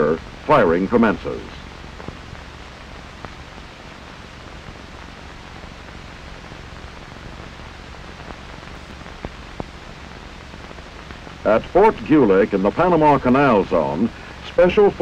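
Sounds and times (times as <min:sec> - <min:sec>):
film soundtrack hiss: 0:00.0 - 0:15.0
low hum: 0:00.0 - 0:15.0.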